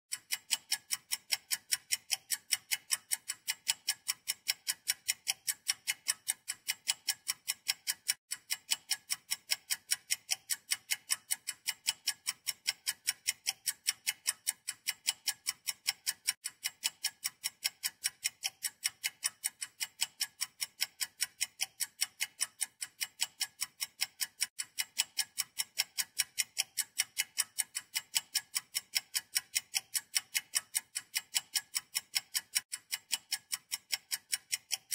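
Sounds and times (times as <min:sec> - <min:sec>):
high-pitched ticking: 0:00.1 - 0:34.9.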